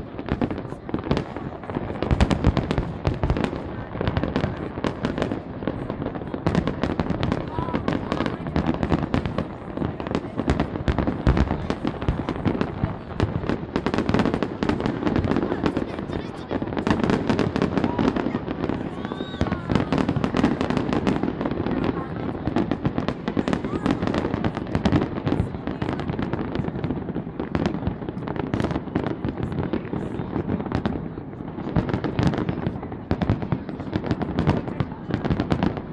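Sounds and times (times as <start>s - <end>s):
deep fireworks booms: 0.0s - 35.9s
fireworks popping and crackling: 0.0s - 35.9s.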